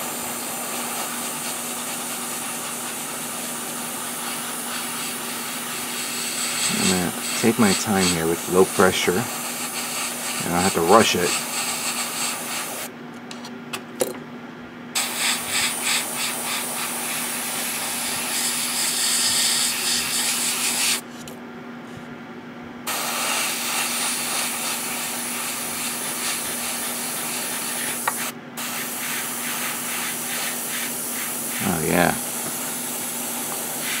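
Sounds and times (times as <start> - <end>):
airbrush air hiss: 0.0 - 12.9, 15.0 - 21.0, 22.9 - 34.0.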